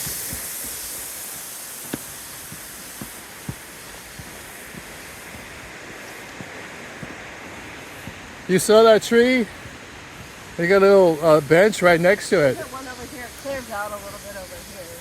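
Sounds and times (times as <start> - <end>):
footsteps on dirt trail: 0.0 - 12.5
high hiss of outdoor background: 0.0 - 15.0.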